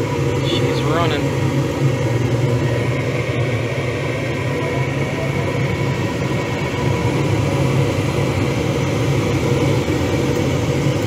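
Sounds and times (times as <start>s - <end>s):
gas furnace rumbling: 0.0s - 11.0s
inducer motor humming: 0.0s - 11.0s.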